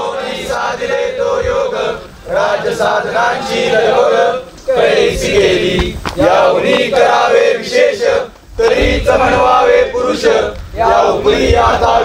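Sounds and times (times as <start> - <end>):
male chorus singing in unison: 0.0 - 12.0.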